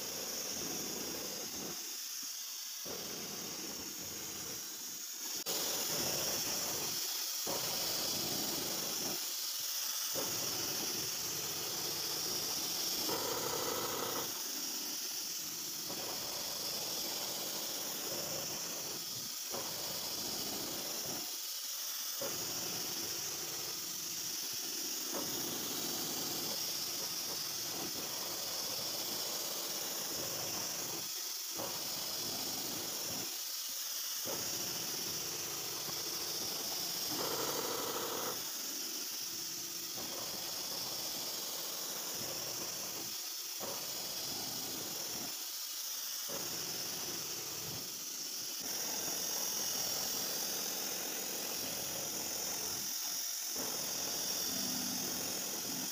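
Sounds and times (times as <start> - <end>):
milling machine hissing: 0.0 - 55.9.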